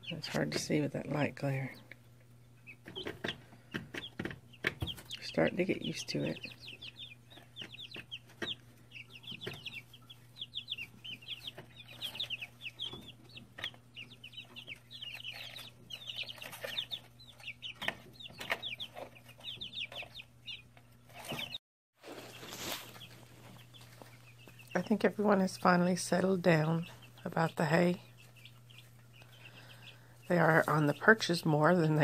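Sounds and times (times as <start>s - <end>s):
chicks peeping: 0.0s - 32.0s.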